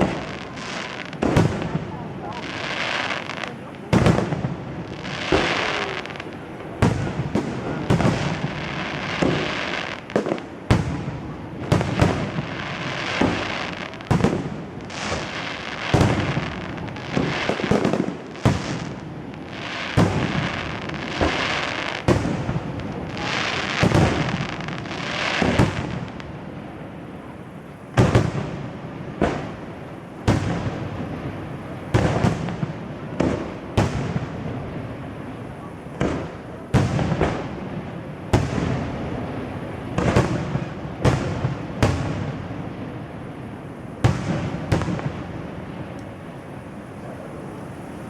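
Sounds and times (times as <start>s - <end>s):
firework bangs: 0.0s - 48.0s
fireworks crackling: 0.0s - 48.0s.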